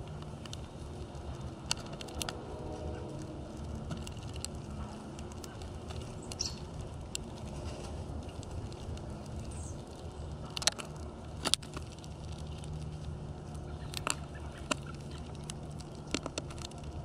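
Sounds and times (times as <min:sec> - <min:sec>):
birds pecking seed: 0:00.0 - 0:17.0
low steady rumble: 0:00.0 - 0:17.0.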